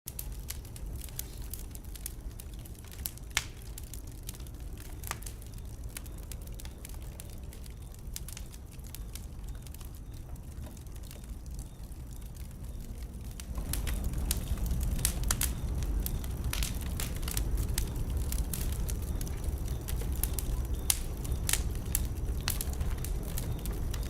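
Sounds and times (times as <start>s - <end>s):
low rumble of flame: 0.1s - 24.0s
wood fire crackling and popping: 0.1s - 24.0s.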